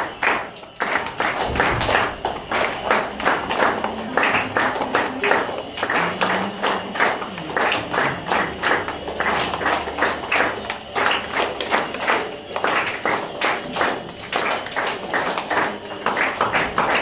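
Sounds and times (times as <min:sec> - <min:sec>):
hands clapping in rhythm: 0:00.0 - 0:17.0.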